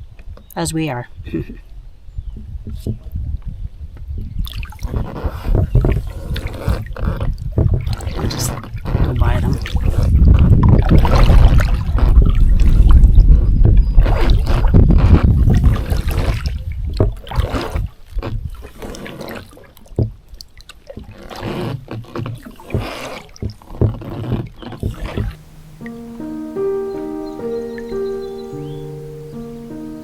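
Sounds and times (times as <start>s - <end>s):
water splashing from kayak paddle: 4.4s - 30.0s.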